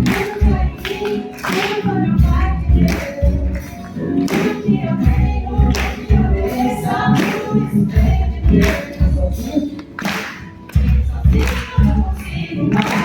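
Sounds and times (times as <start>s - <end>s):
acoustic guitar: 0.0s - 13.0s
group singing: 0.0s - 13.0s
hands clapping in rhythm: 0.0s - 13.0s.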